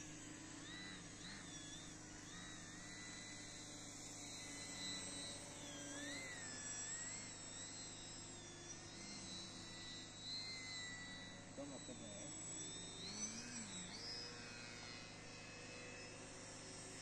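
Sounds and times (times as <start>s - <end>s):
model plane electric motors whining: 0.0s - 17.0s.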